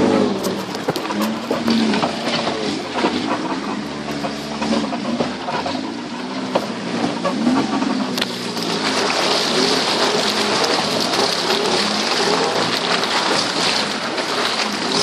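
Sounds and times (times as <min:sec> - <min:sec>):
engine revving inside cabin: 0:00.0 - 0:15.0
knocks and rattles: 0:00.0 - 0:15.0.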